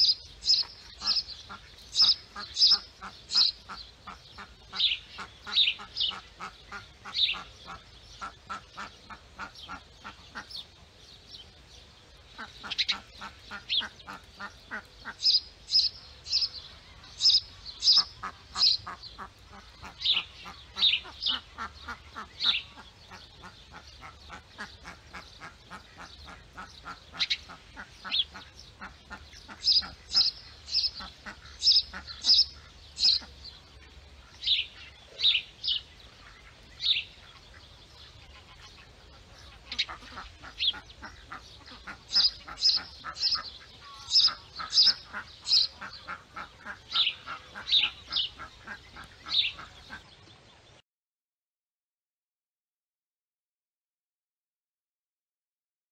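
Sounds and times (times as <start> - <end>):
sharp high-pitched bird calls: 0.0 - 10.7, 12.3 - 33.5, 34.4 - 50.0
ducks calling: 0.0 - 50.5.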